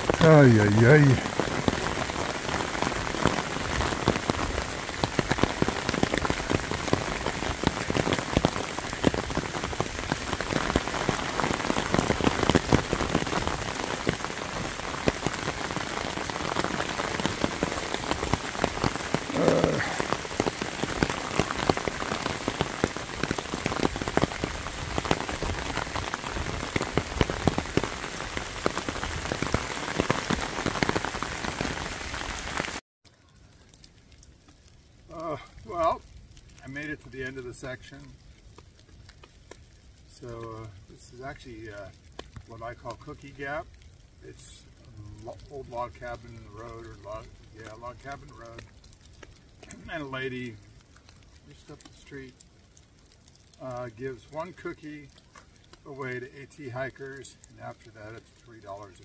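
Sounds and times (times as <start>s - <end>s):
rain drumming on an umbrella: 0.0s - 59.0s.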